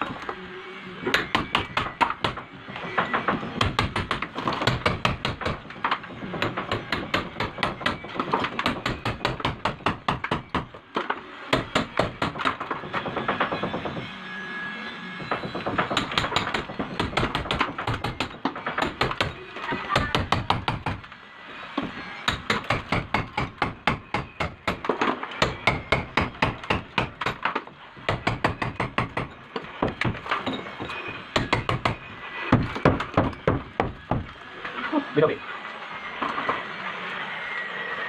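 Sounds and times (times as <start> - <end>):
hammer striking wall: 1.1 - 10.8, 11.5 - 14.0, 15.2 - 21.1, 21.8 - 34.4.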